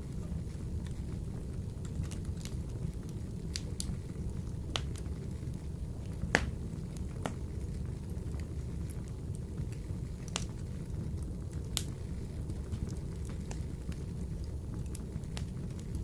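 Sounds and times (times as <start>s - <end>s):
fire crackling and popping: 0.0s - 16.0s
flame rumbling in stove: 0.0s - 16.0s.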